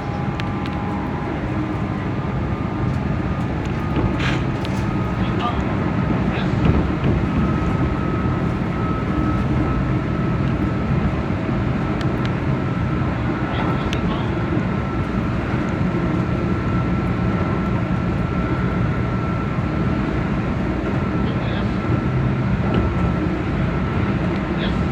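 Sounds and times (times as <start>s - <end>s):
high whine of train: 0.0s - 24.9s
train wheels rumbling on rail: 0.0s - 24.9s.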